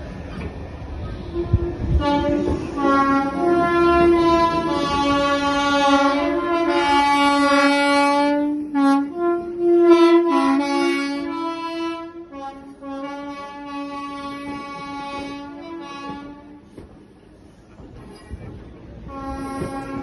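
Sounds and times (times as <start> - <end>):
two-tone train horn blasts: 1.1 - 16.8, 19.0 - 20.0.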